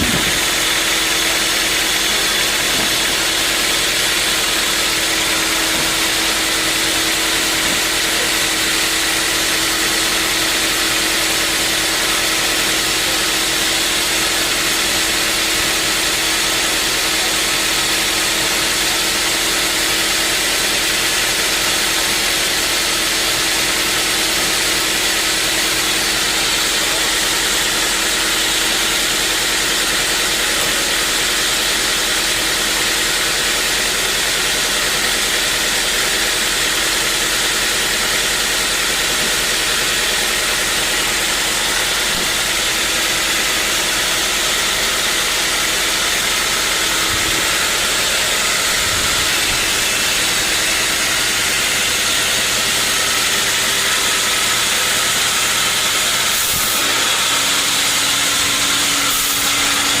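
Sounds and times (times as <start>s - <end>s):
sawmill machinery running: 0.0s - 60.0s.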